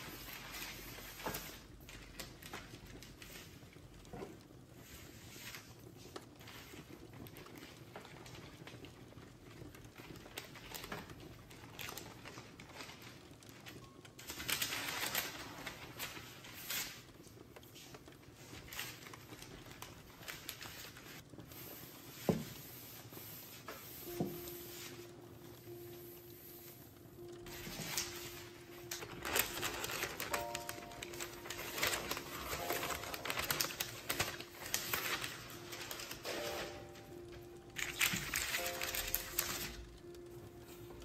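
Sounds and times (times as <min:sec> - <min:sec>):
paper rustling: 0:00.0 - 0:09.0, 0:09.6 - 0:41.0
rolling pin rolling over paper: 0:00.0 - 0:13.8, 0:14.6 - 0:41.0.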